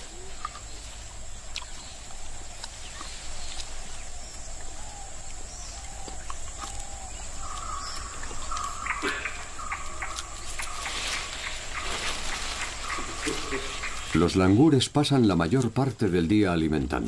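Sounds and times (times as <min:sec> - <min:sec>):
twigs and leaves rustling: 0:00.0 - 0:17.0.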